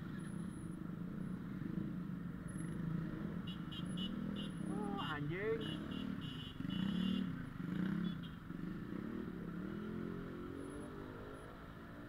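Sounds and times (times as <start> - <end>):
road noise: 0.0 - 12.0
vehicle engines in traffic: 0.0 - 12.0.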